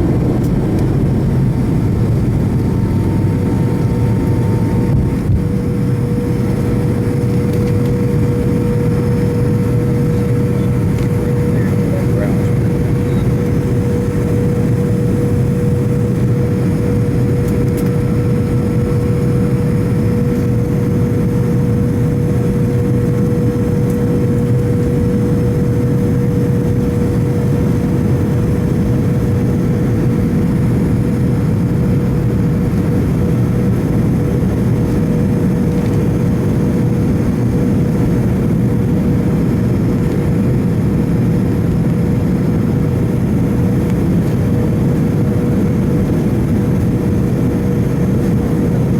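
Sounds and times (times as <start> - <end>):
aircraft cabin engine roar: 0.0 - 48.9.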